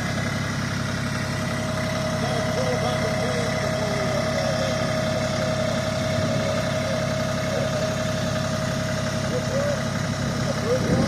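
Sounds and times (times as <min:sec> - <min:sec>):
constant high whine: 0:00.0 - 0:11.0
tractor engine running: 0:00.0 - 0:11.0.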